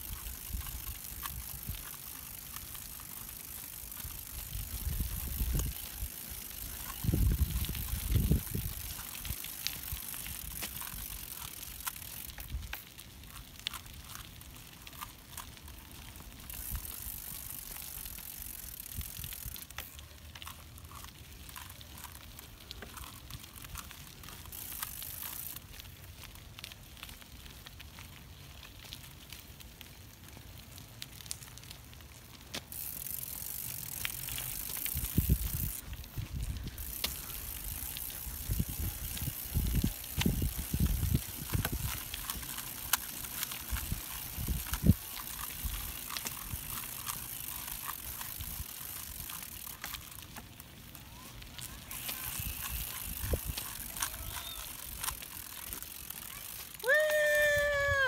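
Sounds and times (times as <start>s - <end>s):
bicycle tyres rolling on asphalt: 0.0s - 58.0s.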